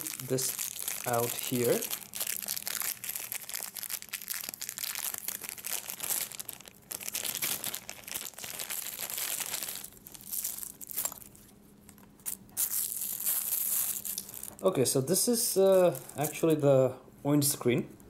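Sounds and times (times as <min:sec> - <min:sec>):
plastic bag crinkling: 0:00.0 - 0:14.6, 0:15.6 - 0:16.4.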